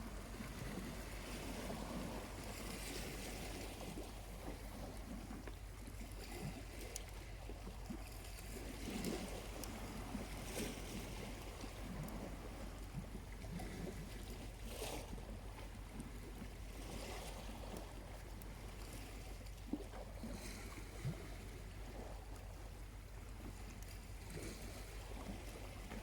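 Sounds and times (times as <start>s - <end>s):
small waves washing onto beach: 0.0s - 26.0s.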